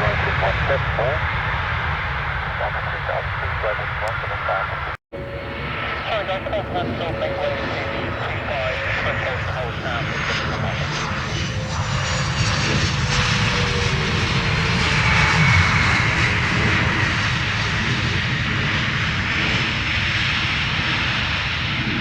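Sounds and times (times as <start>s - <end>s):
aircraft engines passing: 0.0s - 22.0s.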